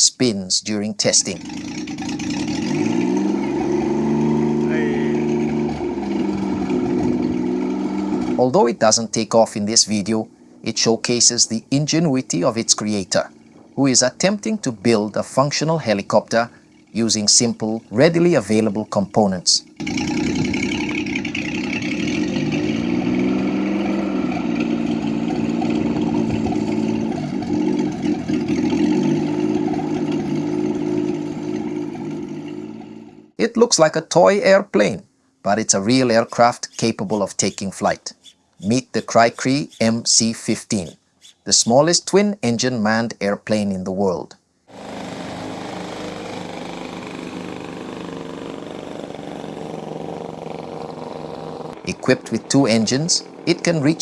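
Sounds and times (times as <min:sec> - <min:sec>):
helicopter engine revving: 0:01.2 - 0:33.3, 0:35.6 - 0:42.0, 0:44.7 - 0:54.0.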